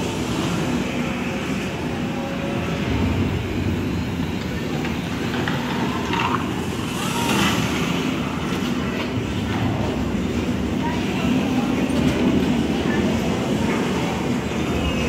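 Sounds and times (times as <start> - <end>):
low indoor hall rumble: 0.0 - 15.0.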